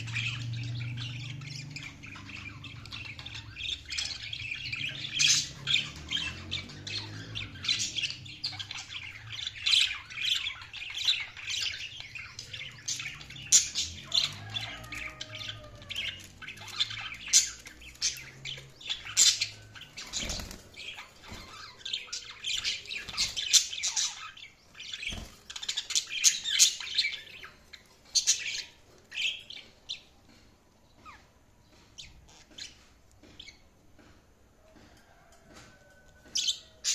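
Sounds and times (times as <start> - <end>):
budgerigars chirping and squawking: 0.0 - 30.1, 31.0 - 34.1, 34.8 - 36.9.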